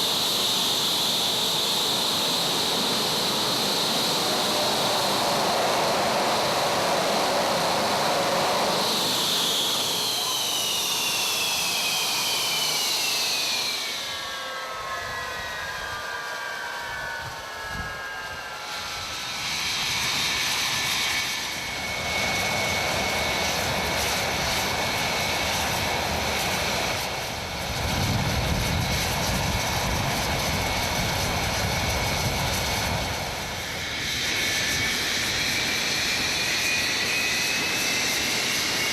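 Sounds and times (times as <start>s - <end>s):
jet engines roaring and whining: 0.0s - 38.9s.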